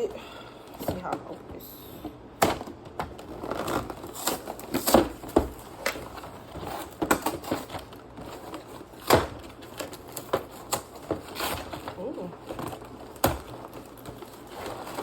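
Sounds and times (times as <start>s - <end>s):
packaging crinkling and rustling: 0.6s - 15.0s.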